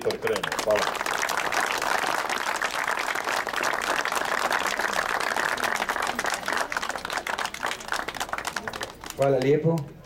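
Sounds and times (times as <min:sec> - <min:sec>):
crowd applause: 0:00.0 - 0:09.6.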